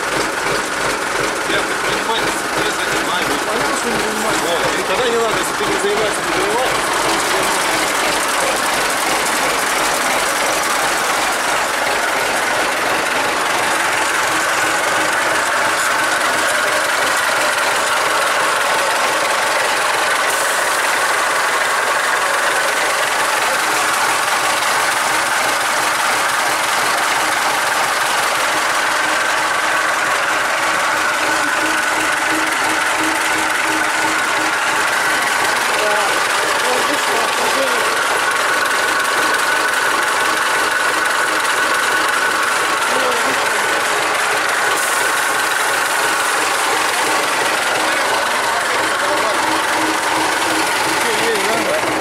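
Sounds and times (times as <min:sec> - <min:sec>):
diesel truck engine idling: 0:00.0 - 0:52.0.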